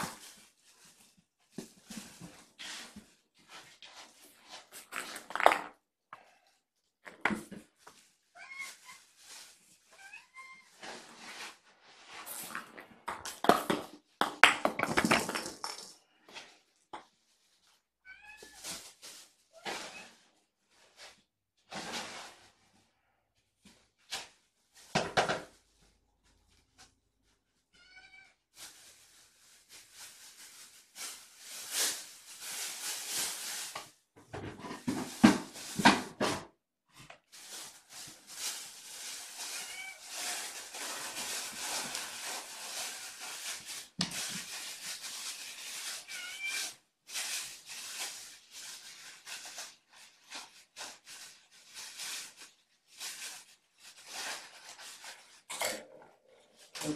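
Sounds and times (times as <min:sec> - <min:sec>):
rustling and scraping: 0:00.0 - 0:05.8, 0:07.0 - 0:22.8, 0:28.6 - 0:56.9.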